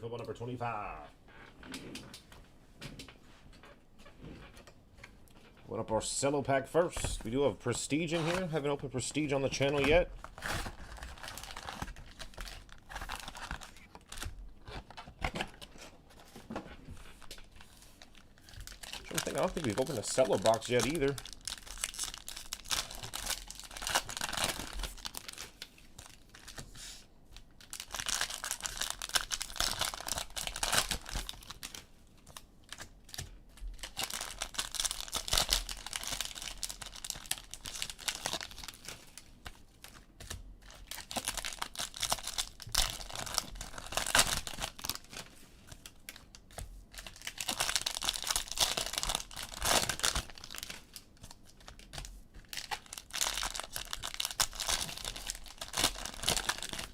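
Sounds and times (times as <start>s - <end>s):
cellophane tearing and crinkling: 7.9s - 16.3s, 17.2s - 26.7s, 27.4s - 56.9s.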